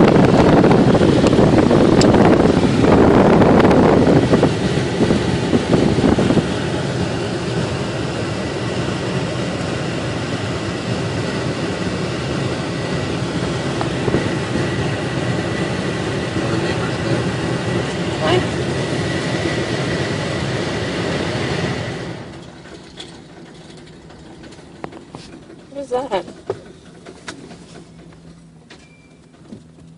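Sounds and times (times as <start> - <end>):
road noise: 0.0 - 29.9
truck engine rumble: 0.0 - 29.9.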